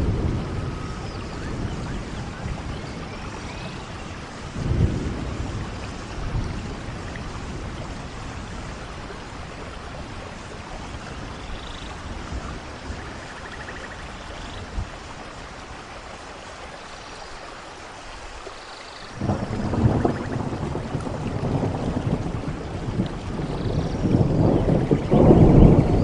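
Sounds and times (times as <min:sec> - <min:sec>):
thunder rumbling: 0:00.0 - 0:15.2, 0:19.2 - 0:26.0
steady rain: 0:00.0 - 0:26.0.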